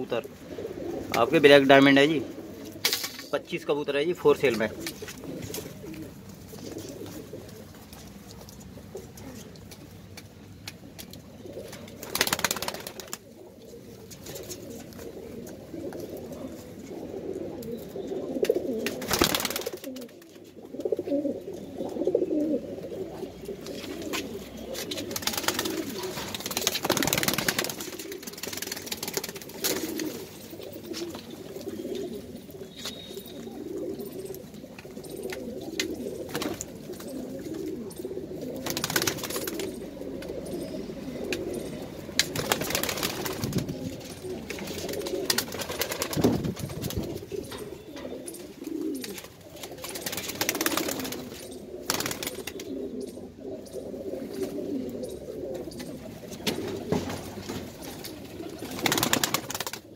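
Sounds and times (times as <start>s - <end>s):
birds rustling: 0.0s - 59.9s
pigeons cooing: 0.0s - 59.9s.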